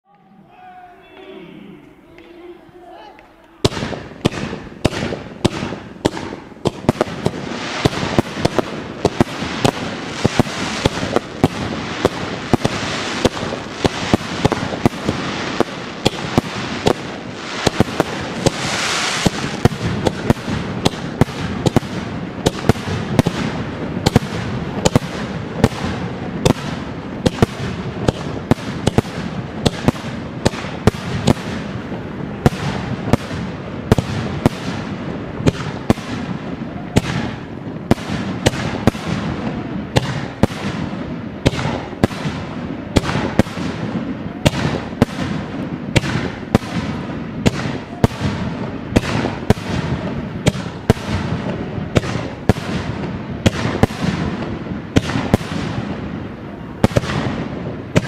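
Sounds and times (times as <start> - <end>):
fireworks hissing crackle: 1.9 - 58.0
fireworks cracks and bangs: 3.2 - 58.0.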